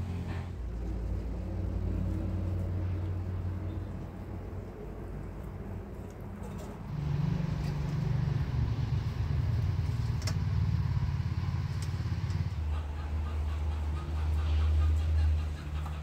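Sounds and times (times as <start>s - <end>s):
engine running with low hum: 0.0s - 16.0s.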